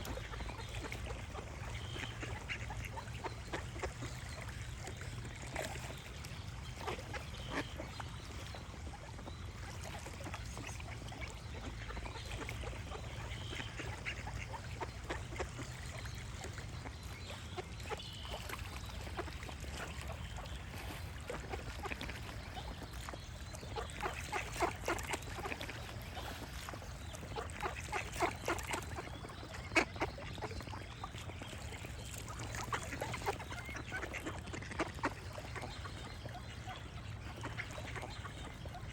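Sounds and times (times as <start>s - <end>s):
ducks quacking: 0.0s - 4.3s, 10.6s - 15.8s, 16.5s - 31.2s, 31.8s - 38.9s.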